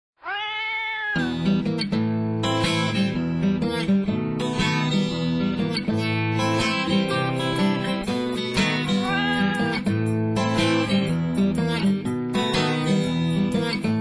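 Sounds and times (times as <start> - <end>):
strummed acoustic guitar: 1.2 - 14.0.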